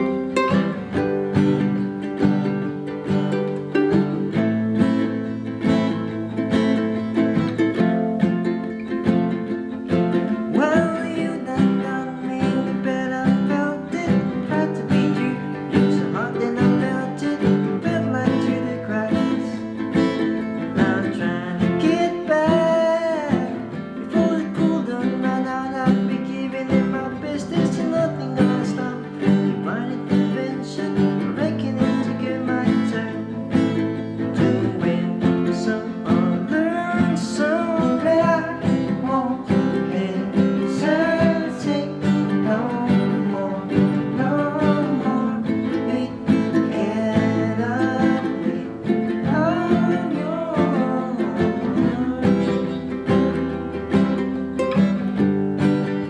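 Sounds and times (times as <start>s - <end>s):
acoustic guitar strumming: 0.0s - 56.0s
person singing: 0.0s - 56.0s.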